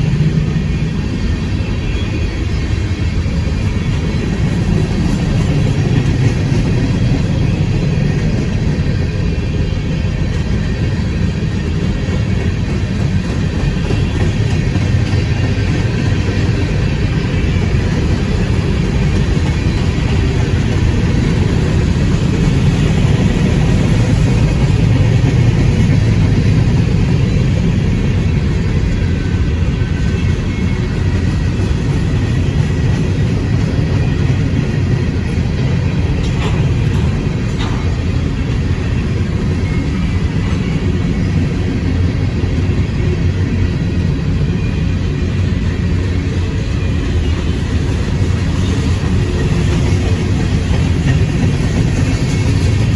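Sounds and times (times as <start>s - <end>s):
freight train rumbling past: 0.0s - 52.9s.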